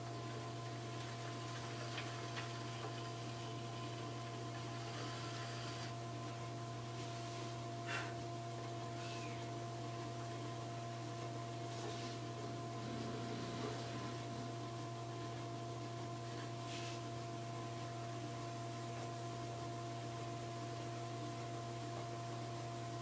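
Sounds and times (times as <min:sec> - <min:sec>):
potter's wheel humming: 0:00.0 - 0:23.0.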